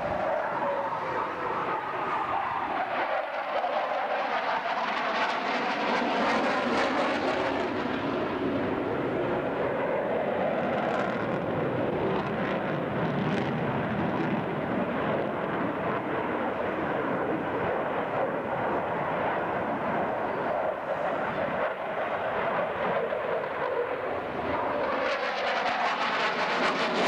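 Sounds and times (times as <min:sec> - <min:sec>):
airplane engine rushing: 0:00.0 - 0:27.0.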